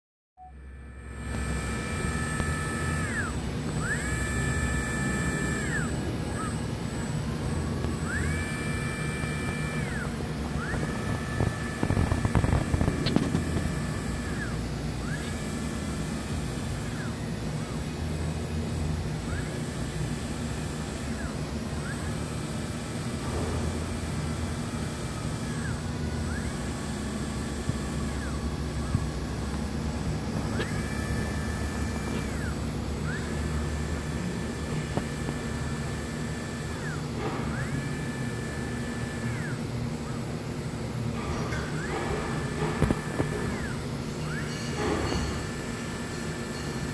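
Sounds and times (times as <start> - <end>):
electric motor whine: 0.4 - 46.9
steady low hum: 0.4 - 46.9.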